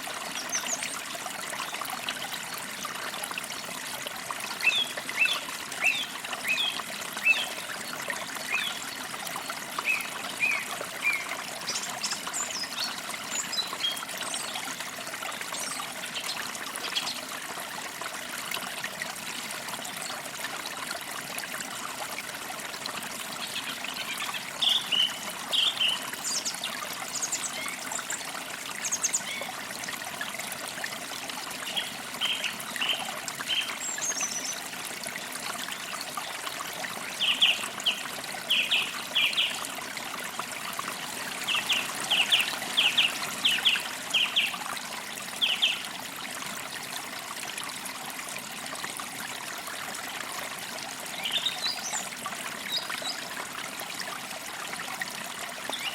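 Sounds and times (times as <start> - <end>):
creek trickling: 0.0 - 55.9.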